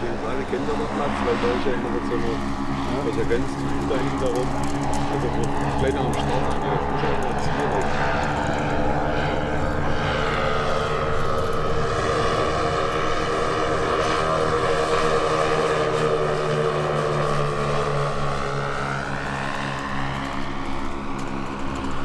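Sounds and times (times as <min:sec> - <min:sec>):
model airplane propeller drone: 0:00.0 - 0:22.0.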